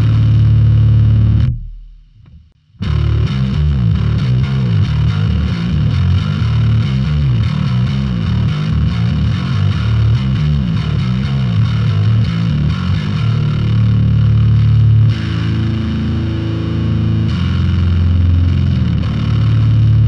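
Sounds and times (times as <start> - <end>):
bass guitar riff: 0.0 - 20.0.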